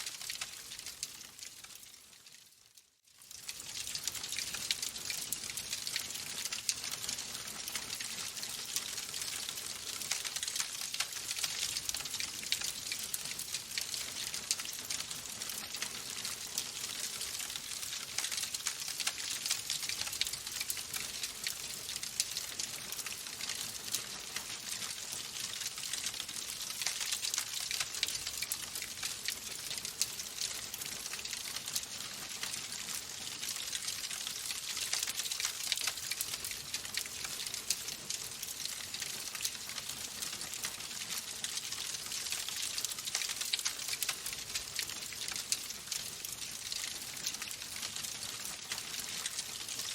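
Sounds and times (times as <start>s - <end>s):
wood fire crackling: 0.0s - 2.4s, 3.1s - 49.9s.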